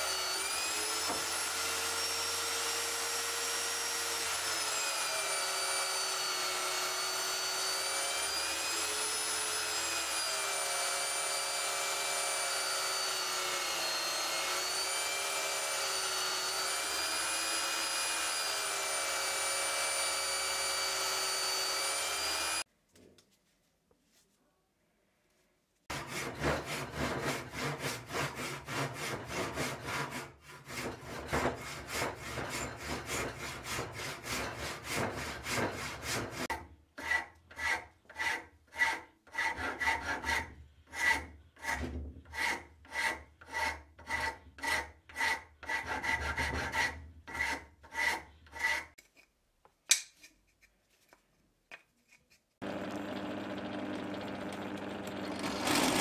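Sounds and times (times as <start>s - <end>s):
hand saw cutting wood: 0.0s - 22.7s, 25.9s - 49.1s, 54.8s - 56.0s.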